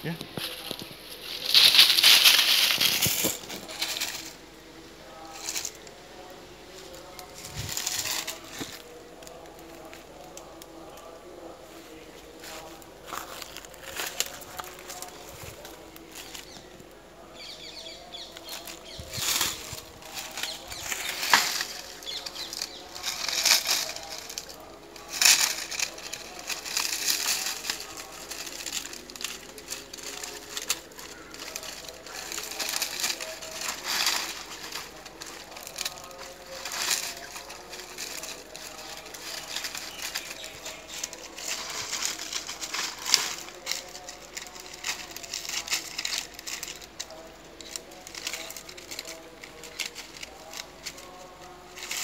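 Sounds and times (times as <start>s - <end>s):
dry palm fronds rustling: 0.0s - 52.0s.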